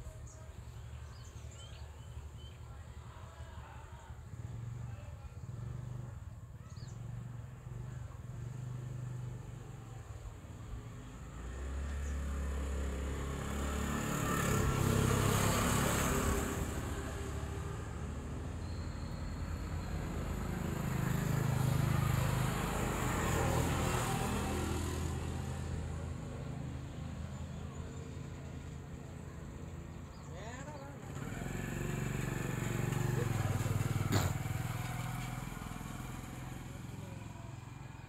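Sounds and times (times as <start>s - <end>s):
motor vehicles passing: 3.4s - 38.0s.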